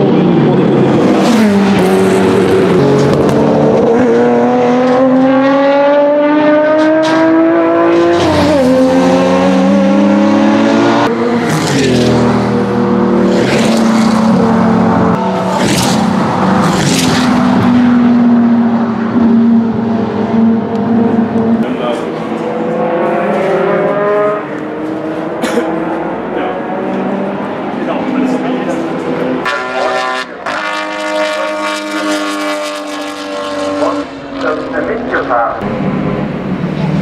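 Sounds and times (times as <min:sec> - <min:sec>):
engine running at varying revs: 0:00.0 - 0:37.0
racing engine accelerating: 0:00.0 - 0:37.0.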